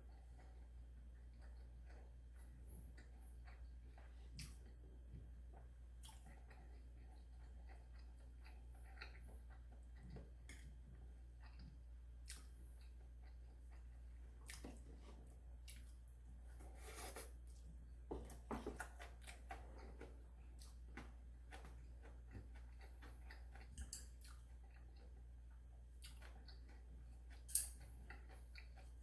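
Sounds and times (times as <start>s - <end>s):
low steady hum: 0.0s - 29.0s
soft chewing: 0.0s - 29.0s.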